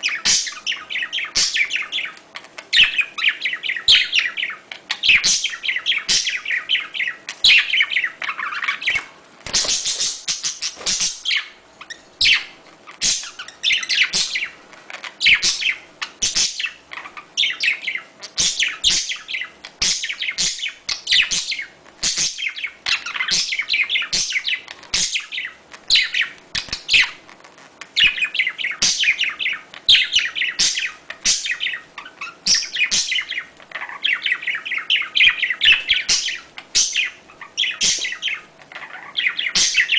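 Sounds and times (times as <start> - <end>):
budgerigars chattering and warbling: 0.0 - 27.2, 27.9 - 39.9.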